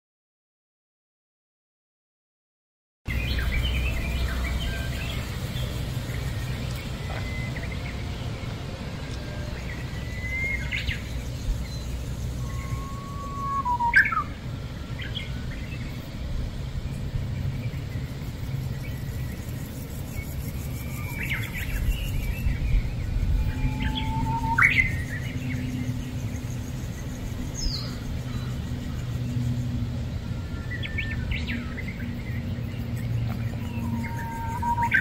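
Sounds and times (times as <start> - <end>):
birds chirping and whistling: 3.1 - 35.0
steady low hum: 3.1 - 35.0.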